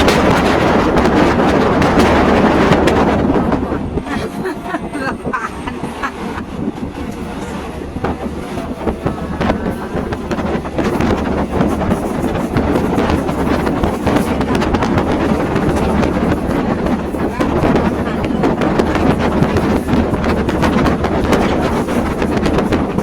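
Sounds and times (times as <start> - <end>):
train rumbling on track: 0.0 - 23.0
wind on microphone: 0.0 - 23.0.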